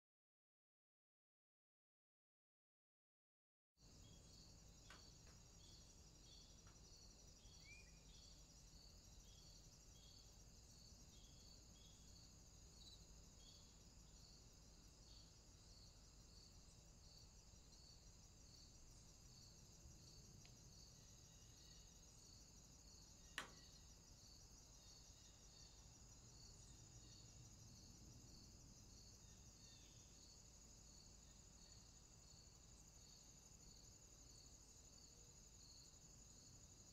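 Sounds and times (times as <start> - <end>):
insects chirping: 3.8 - 36.9.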